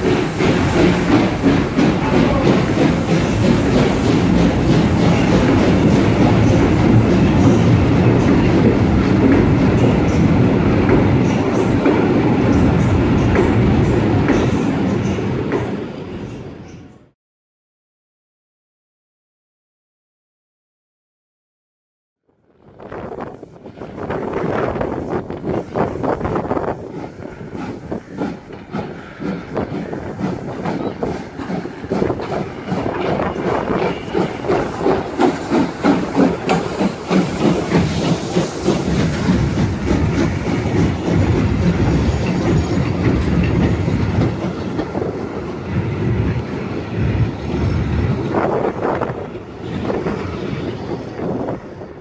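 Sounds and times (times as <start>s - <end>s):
train wheels clickety-clack: 0.0s - 15.8s, 23.7s - 51.6s
steam locomotive passing: 0.0s - 16.7s, 22.4s - 52.0s.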